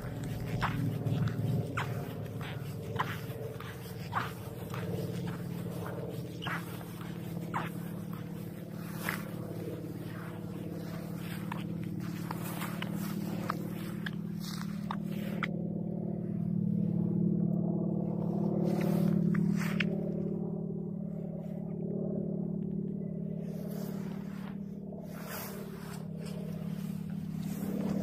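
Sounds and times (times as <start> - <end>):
low engine drone: 0.0 - 28.0.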